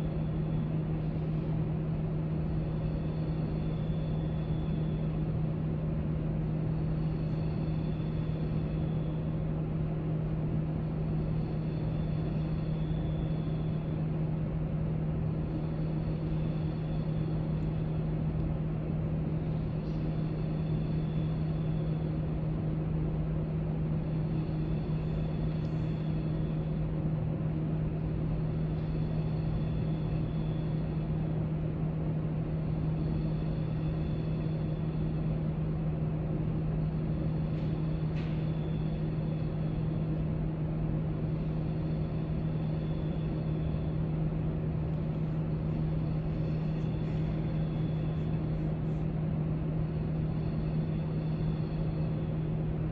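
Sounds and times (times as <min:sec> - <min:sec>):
ventilation hum and rumble: 0:00.0 - 0:52.9.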